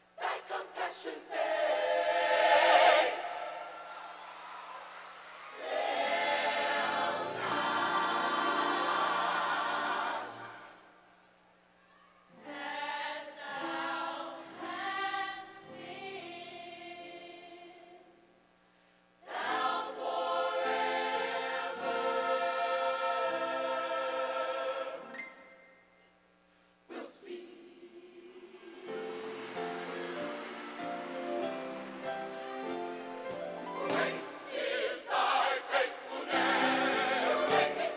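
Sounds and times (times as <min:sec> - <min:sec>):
gospel choir singing: 0:00.0 - 0:11.0, 0:12.4 - 0:18.2, 0:19.2 - 0:25.5, 0:26.9 - 0:37.9.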